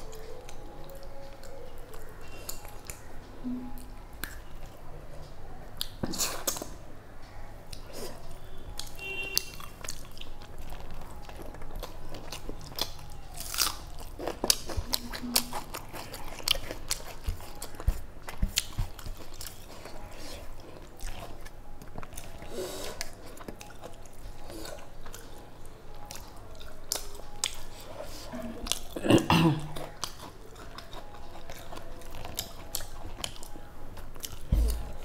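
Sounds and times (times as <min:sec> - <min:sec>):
crunchy chewing: 0:05.8 - 0:35.0.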